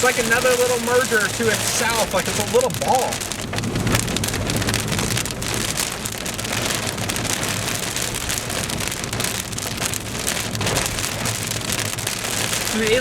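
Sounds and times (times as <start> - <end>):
low vehicle hum: 0.0 - 13.0
rain hitting car roof: 0.0 - 13.0.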